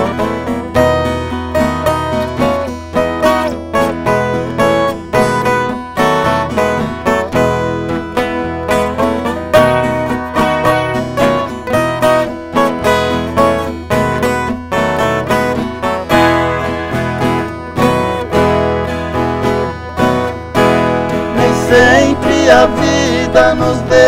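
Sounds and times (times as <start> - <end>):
acoustic guitars strumming: 0.0 - 24.0
viola caipira plucked notes: 0.0 - 24.0.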